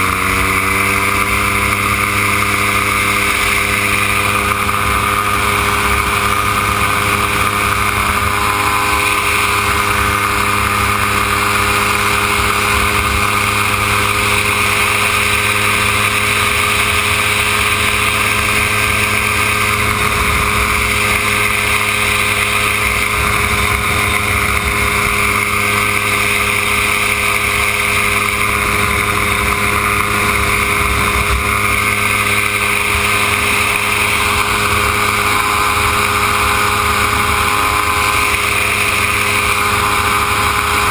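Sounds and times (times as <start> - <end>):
aircraft engine and propeller droning: 0.0 - 40.9
wind rushing over microphone: 0.0 - 40.9.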